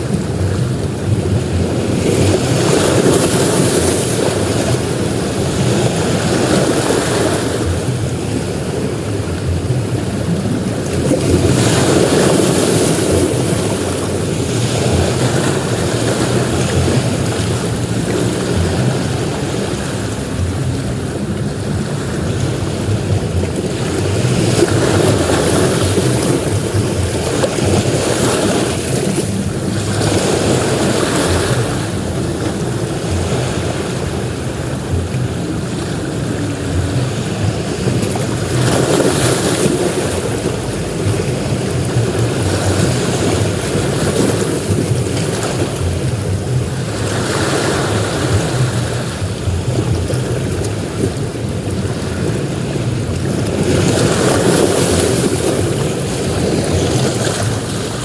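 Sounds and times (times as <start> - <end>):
ocean waves crashing on beach: 0.0 - 58.0.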